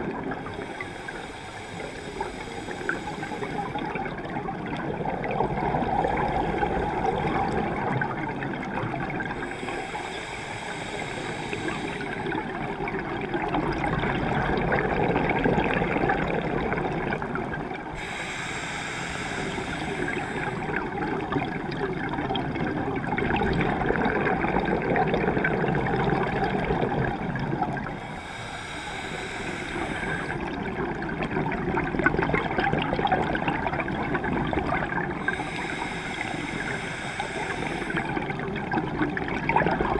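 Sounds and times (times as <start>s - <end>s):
exhaled bubbles gurgling: 0.0s - 39.9s
muffled water noise: 0.0s - 39.9s.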